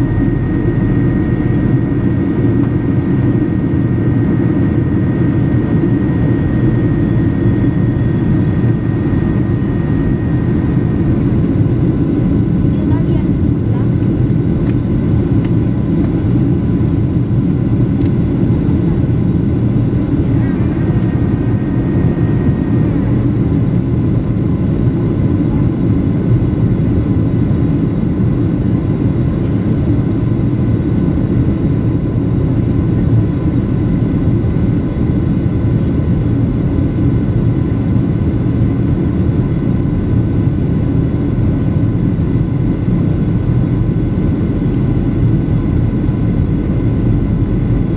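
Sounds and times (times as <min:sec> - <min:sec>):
airflow rush in aircraft cabin: 0:00.0 - 0:47.9
jet engines droning: 0:00.0 - 0:47.9.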